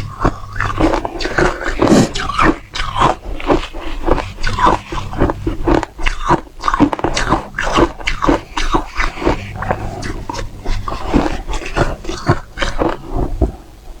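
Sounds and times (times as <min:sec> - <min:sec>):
crunching frozen ice chewed: 0:00.0 - 0:14.0.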